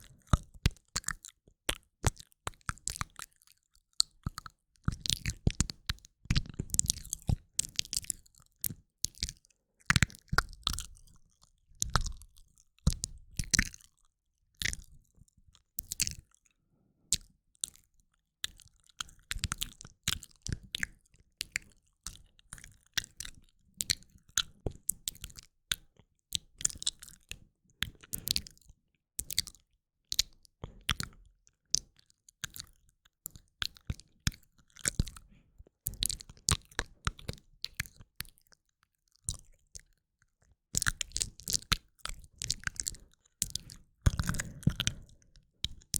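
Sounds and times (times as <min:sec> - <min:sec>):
wet mouth clicks and smacks: 0:04.0 - 0:14.0, 0:14.6 - 0:15.0, 0:17.1 - 0:17.8, 0:18.4 - 0:35.3, 0:35.9 - 0:38.5, 0:39.2 - 0:45.9.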